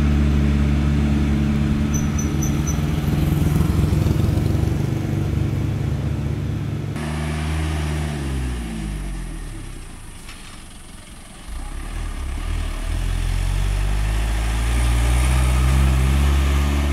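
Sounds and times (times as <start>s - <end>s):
truck engine pulling uphill: 0.0s - 16.9s.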